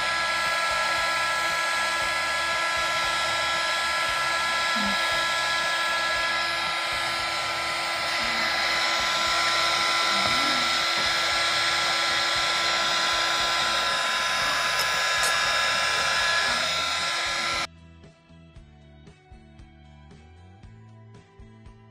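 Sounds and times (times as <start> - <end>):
heat gun blowing with motor whine: 0.0 - 17.7.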